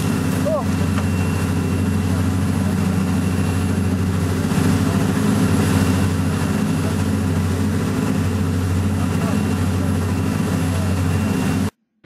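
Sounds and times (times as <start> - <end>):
boat engine droning: 0.0 - 11.8.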